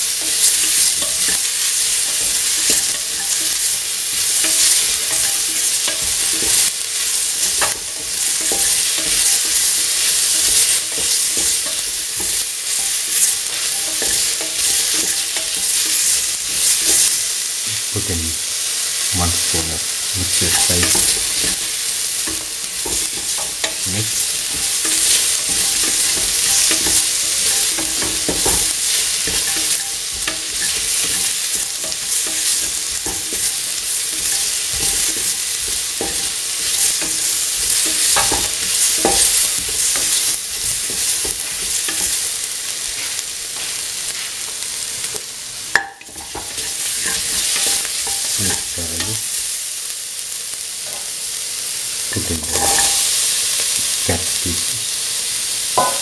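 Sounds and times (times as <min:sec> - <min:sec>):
spoon scraping against pan: 0:00.0 - 0:17.2, 0:20.3 - 0:44.3, 0:45.1 - 0:49.4, 0:52.5 - 0:53.4
vegetables sizzling in oil: 0:00.0 - 0:56.0.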